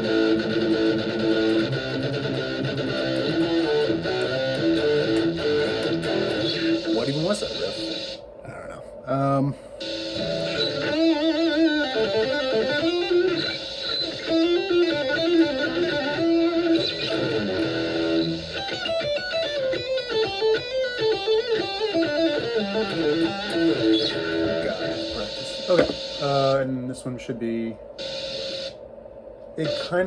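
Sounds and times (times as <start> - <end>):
distorted electric guitar riff: 0.0 - 8.2, 9.8 - 26.5.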